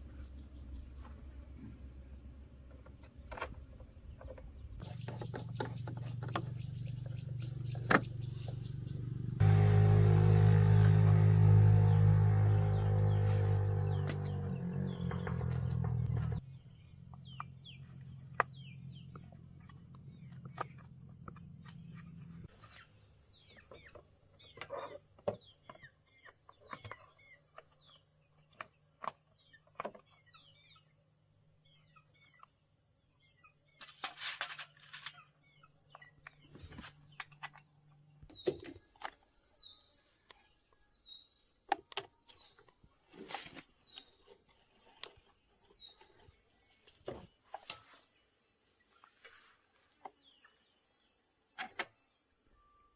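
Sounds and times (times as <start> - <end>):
small birds chirping: 0.0 - 9.4, 10.9 - 52.7.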